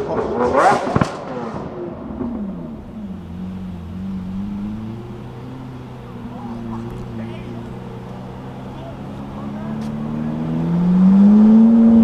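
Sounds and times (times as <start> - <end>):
car engine revving: 0.0 - 12.0
exhaust cracks: 0.0 - 12.0.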